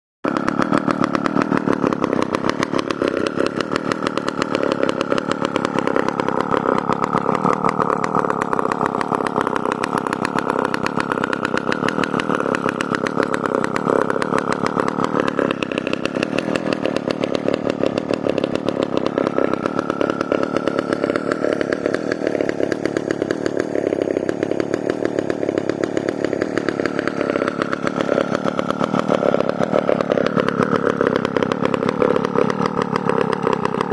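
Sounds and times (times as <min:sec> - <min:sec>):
chainsaw engine running: 0:00.2 - 0:33.9.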